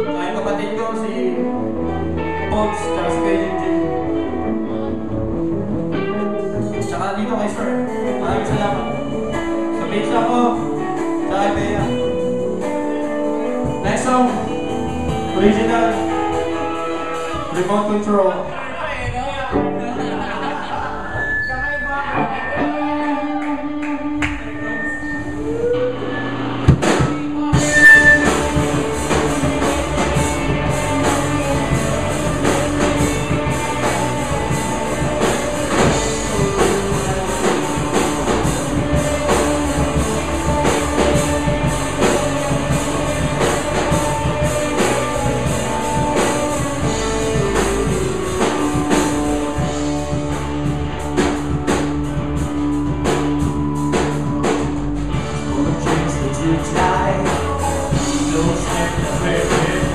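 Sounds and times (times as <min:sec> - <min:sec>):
bass guitar: 0:00.0 - 0:59.9
electric guitars: 0:00.0 - 0:59.9
drum kit: 0:02.4 - 0:18.1, 0:19.0 - 0:59.9.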